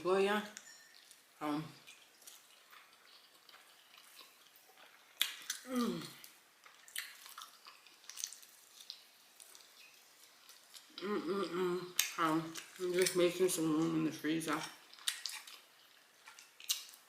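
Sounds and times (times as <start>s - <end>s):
chewing: 0.5s - 11.0s, 11.9s - 17.0s.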